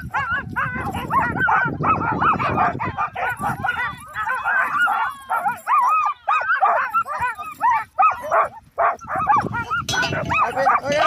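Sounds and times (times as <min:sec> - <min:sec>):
huskies yelping and barking: 0:00.0 - 0:11.0.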